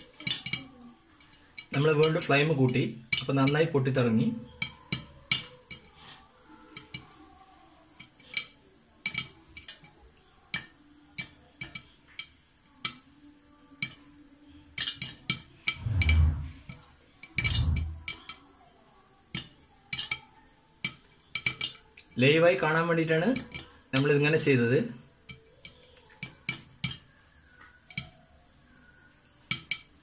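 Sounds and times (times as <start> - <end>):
popcorn popping in a pan: 0.0 - 15.8, 16.6 - 30.0.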